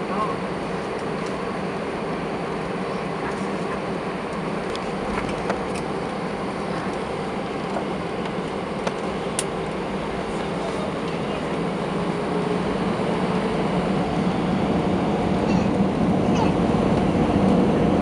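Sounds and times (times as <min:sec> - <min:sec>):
aircraft cabin hum and rumble: 0:00.0 - 0:18.0.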